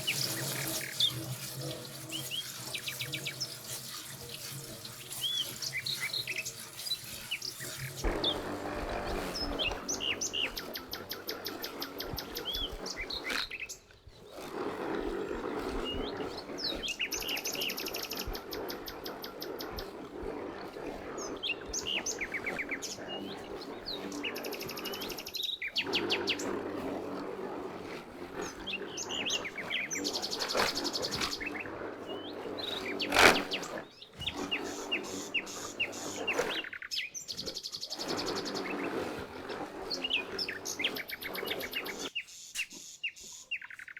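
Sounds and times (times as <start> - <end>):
songbirds chirping and singing: 0.0 - 43.9.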